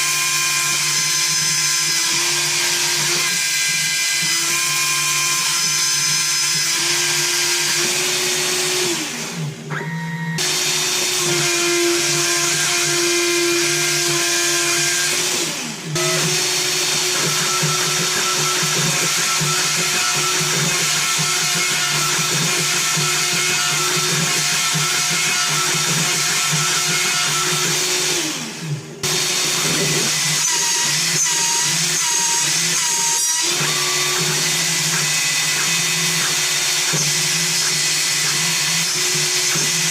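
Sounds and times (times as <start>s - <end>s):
cutting wood noise: 0.0s - 39.9s
router spindle whine: 0.0s - 39.9s.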